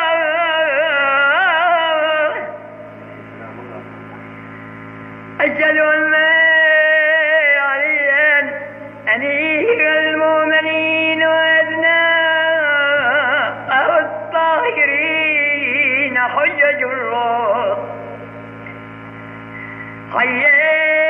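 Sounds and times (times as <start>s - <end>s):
man chanting: 0.0s - 4.1s, 5.4s - 18.2s, 20.1s - 21.0s.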